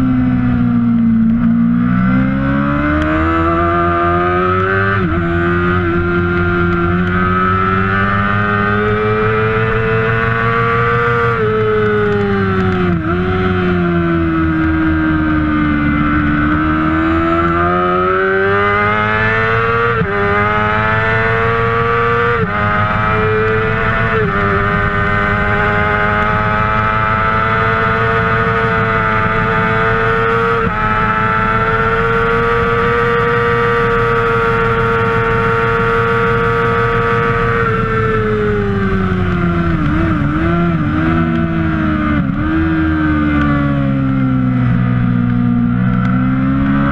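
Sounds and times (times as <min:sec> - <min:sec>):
motorcycle engine at high revs: 0:00.0 - 0:46.9.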